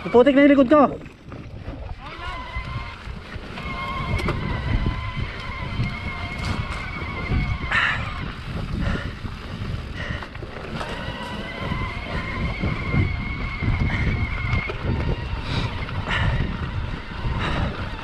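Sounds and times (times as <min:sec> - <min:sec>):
bike knocking and rattling: 0:00.0 - 0:18.0
wind buffeting microphone: 0:00.0 - 0:18.0.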